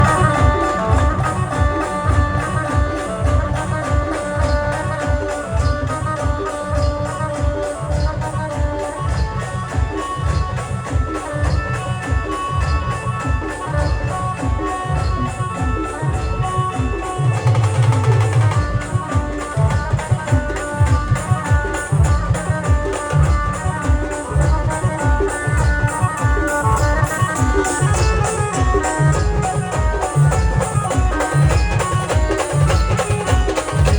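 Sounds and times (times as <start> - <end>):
low drum beat: 0.0 - 33.9.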